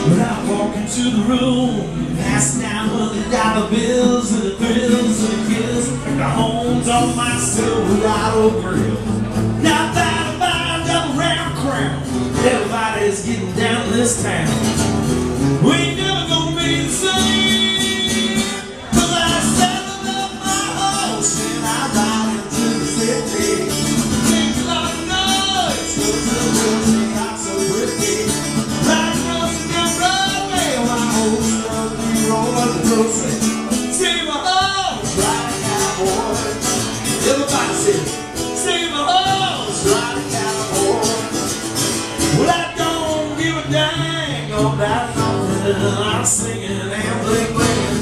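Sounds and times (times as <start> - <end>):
acoustic guitar accompaniment: 0.0 - 48.0.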